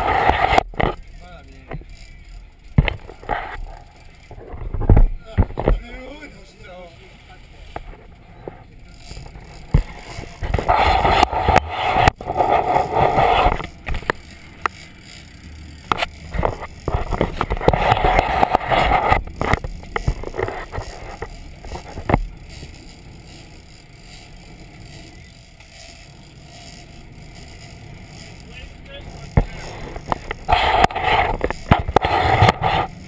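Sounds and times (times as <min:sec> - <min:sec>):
low hum of boat: 0:00.0 - 0:33.0
wind: 0:00.0 - 0:33.0.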